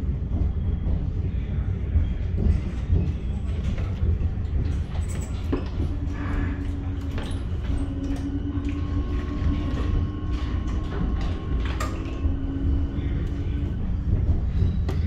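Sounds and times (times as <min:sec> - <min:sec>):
train car rumbling: 0:00.0 - 0:15.0.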